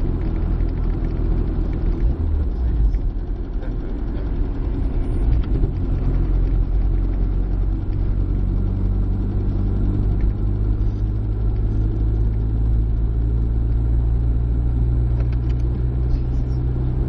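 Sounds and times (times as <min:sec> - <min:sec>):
car engine hum: 0:00.0 - 0:17.0
road noise inside car: 0:00.0 - 0:17.0.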